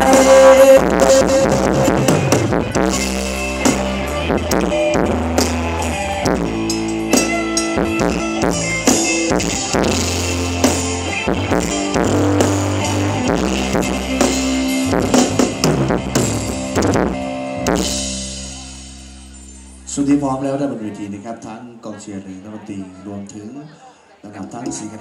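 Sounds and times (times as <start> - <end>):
drum kit: 0.0 - 20.3
bass guitar: 0.0 - 22.1
guitar: 0.0 - 25.0.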